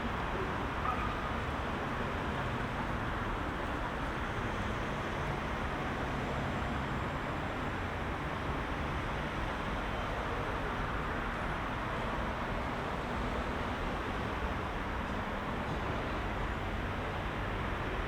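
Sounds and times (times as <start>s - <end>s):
heavy city traffic: 0.0s - 18.0s.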